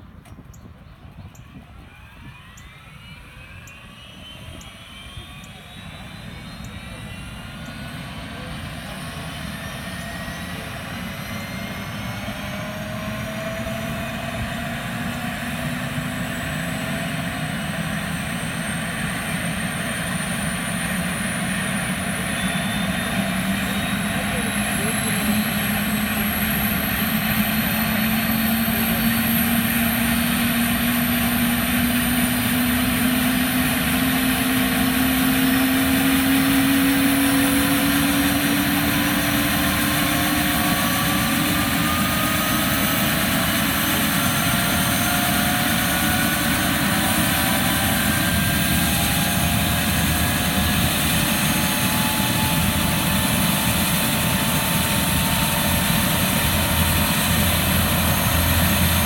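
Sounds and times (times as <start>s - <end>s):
helicopter engine whining: 0.0s - 59.0s.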